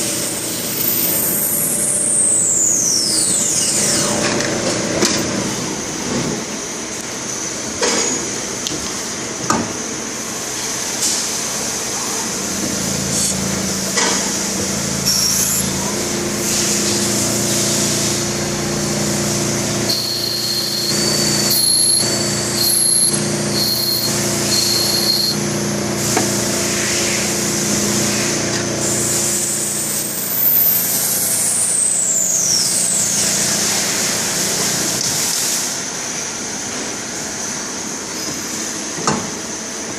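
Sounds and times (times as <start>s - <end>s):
lathe machine hum: 0.0s - 7.7s, 10.0s - 38.1s
high machine whine: 0.0s - 9.4s, 10.0s - 39.9s.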